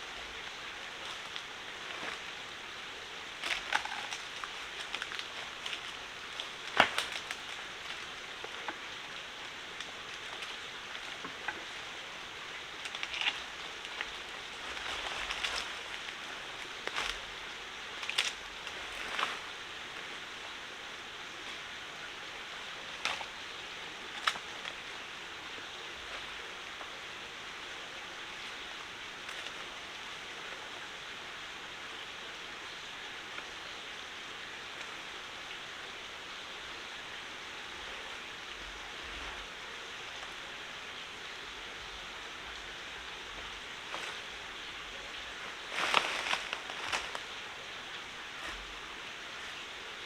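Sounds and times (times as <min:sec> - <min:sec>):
stream water running: 0:00.0 - 0:50.0.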